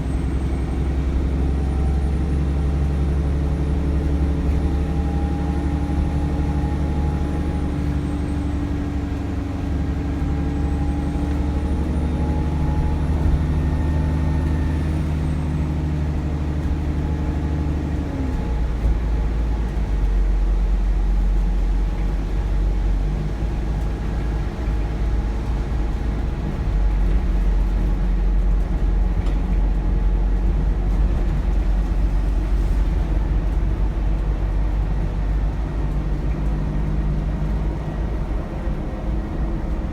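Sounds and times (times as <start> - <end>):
diesel bus engine droning: 0.0 - 39.9
road noise: 0.0 - 39.9.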